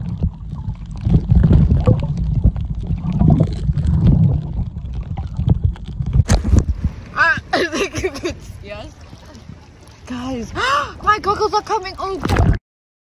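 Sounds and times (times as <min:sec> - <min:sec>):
underwater rumble and gurgling: 0:00.0 - 0:12.6.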